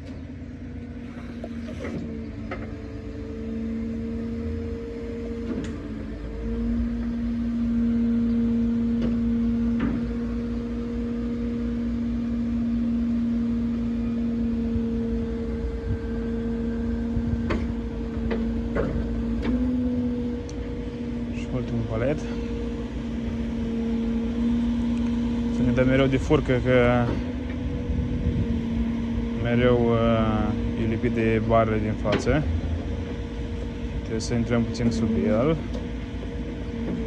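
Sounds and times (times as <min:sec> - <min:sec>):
hydraulic pump and engine hum: 0:00.0 - 0:37.0.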